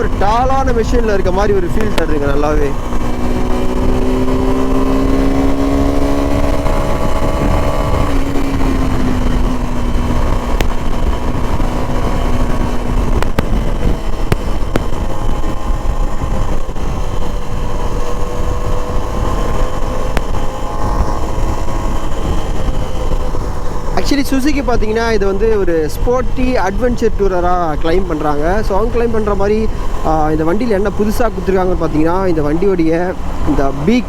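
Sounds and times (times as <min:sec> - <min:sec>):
motorcycle engine cruising: 0:00.0 - 0:34.0
wind rumble on microphone: 0:00.0 - 0:34.0.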